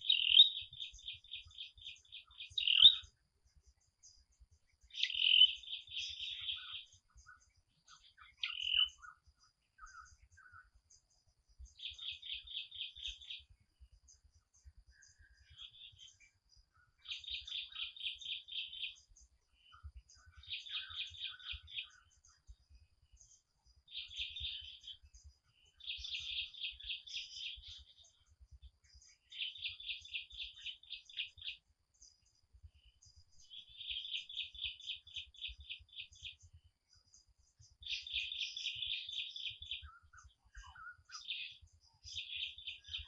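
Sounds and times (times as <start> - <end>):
songbird trilling: 0.0 - 3.2, 4.8 - 10.7, 11.7 - 13.5, 15.0 - 22.4, 23.2 - 25.0, 25.6 - 28.2, 28.9 - 31.6, 33.4 - 43.0.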